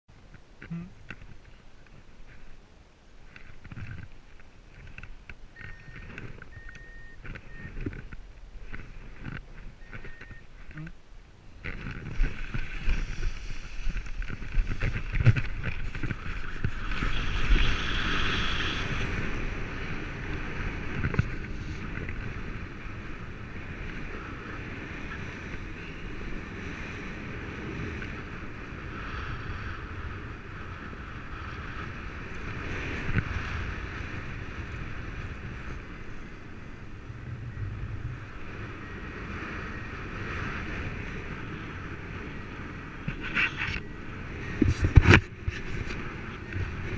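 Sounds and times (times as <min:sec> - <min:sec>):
wind rushing over microphone: 0:00.2 - 0:46.9.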